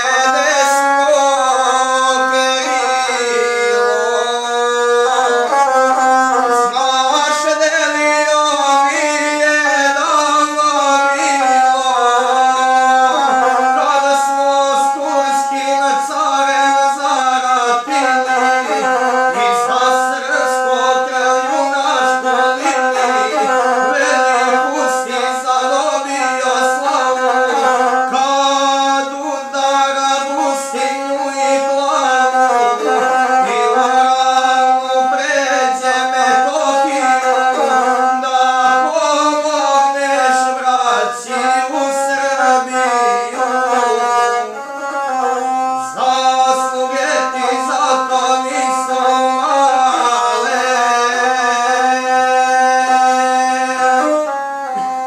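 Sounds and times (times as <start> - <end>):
bowed single-string fiddle: 0.0 - 55.0
man singing: 0.0 - 55.0.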